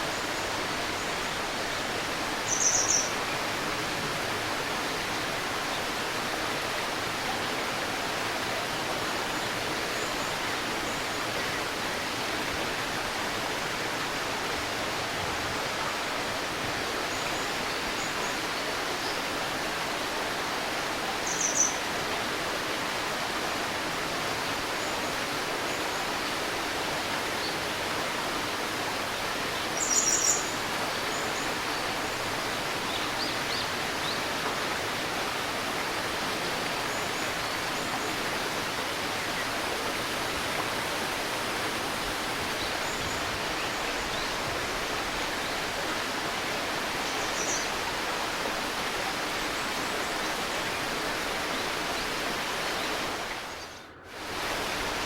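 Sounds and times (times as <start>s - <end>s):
river babbling: 0.0s - 55.0s.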